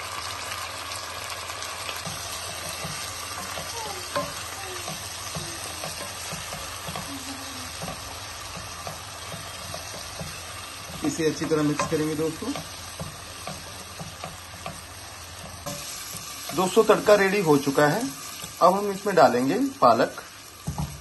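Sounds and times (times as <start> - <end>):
vegetables sizzling in hot oil: 0.0 - 21.0
wooden spatula scraping a pan: 1.9 - 19.4.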